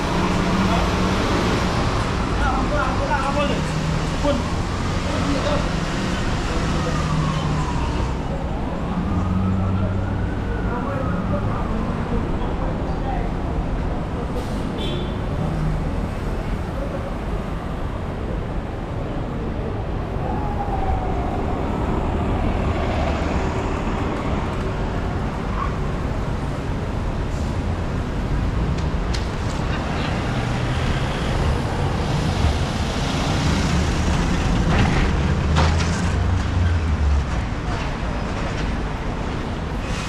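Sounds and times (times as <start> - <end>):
vehicles running past: 0.0 - 40.0.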